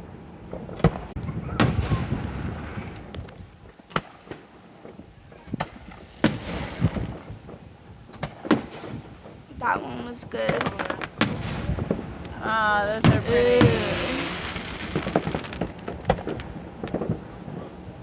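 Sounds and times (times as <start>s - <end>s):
fireworks banging with echo: 0.5s - 18.0s.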